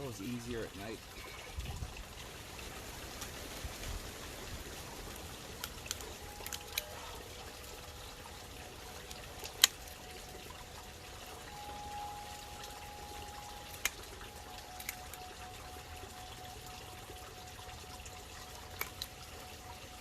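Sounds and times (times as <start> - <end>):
pond water bubbling and trickling: 0.0 - 20.0.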